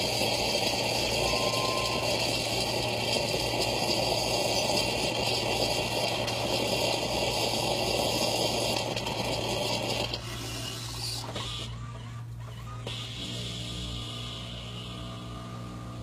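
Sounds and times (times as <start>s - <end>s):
coffee machine frothing milk: 0.0s - 16.0s
pump humming: 0.0s - 16.0s.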